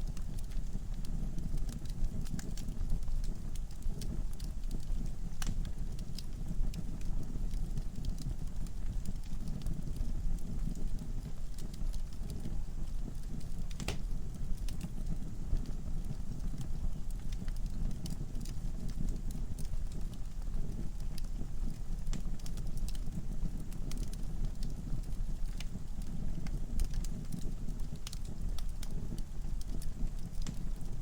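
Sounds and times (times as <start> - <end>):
logs crackling and popping: 0.0 - 31.0
fire flames rumbling: 0.1 - 31.0.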